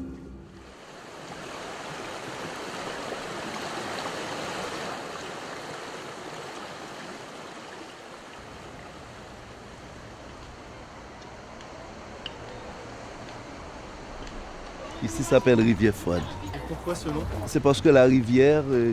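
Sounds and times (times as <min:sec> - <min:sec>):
river water flowing: 0:00.0 - 0:18.9.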